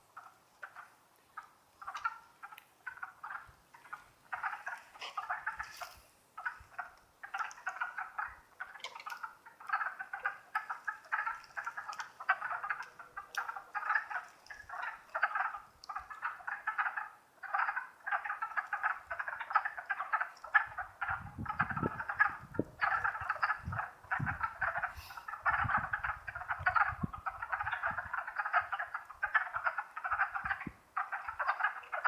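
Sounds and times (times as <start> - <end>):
chorus of frogs clucking: 0.0 - 32.0.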